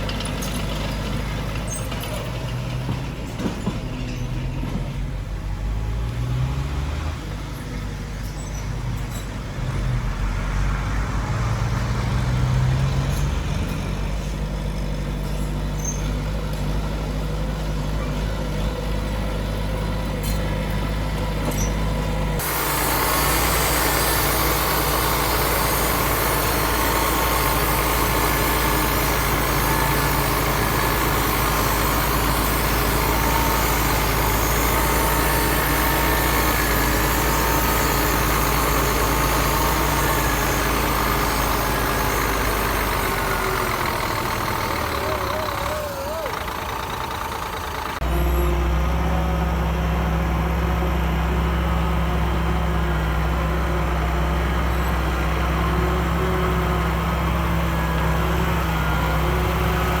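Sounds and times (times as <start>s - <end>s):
heavy diesel machinery engines: 0.0s - 60.0s.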